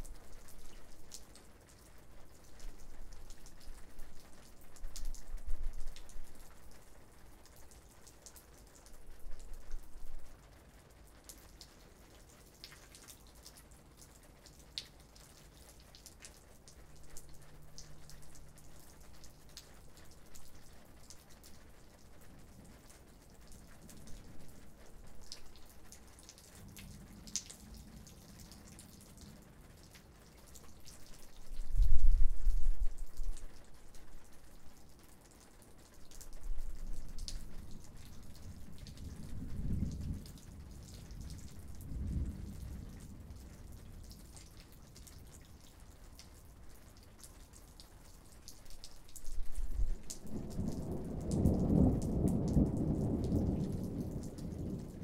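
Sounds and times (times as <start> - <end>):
faint hiss of rain: 0.0 - 55.0
raindrops ticking: 0.0 - 55.0.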